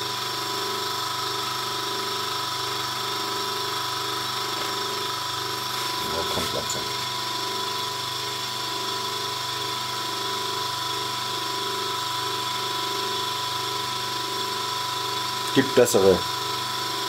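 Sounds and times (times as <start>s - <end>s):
vacuum pump humming with warble: 0.0s - 17.0s.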